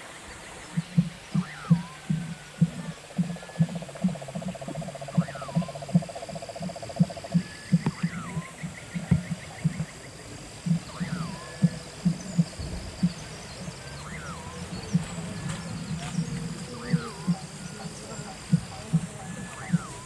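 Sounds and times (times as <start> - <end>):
frogs low pulsing: 0.0 - 20.0
steady high whine: 0.0 - 20.0.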